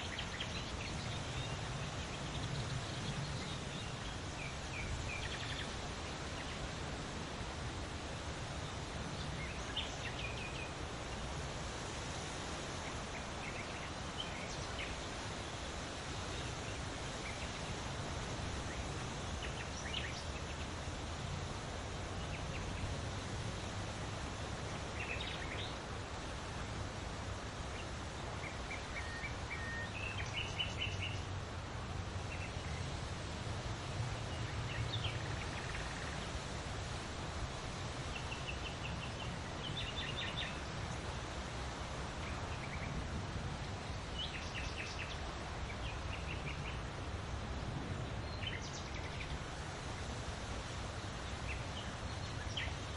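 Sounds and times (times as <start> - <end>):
outdoor noise: 0.0 - 52.9
songbirds chirping: 0.0 - 52.9.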